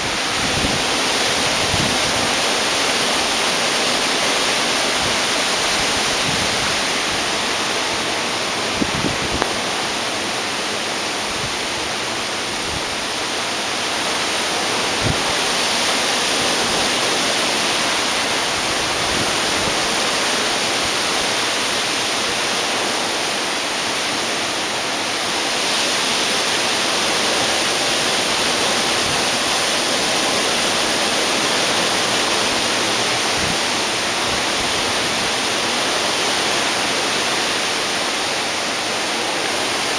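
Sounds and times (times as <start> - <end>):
wind and driving rain: 0.0 - 39.9.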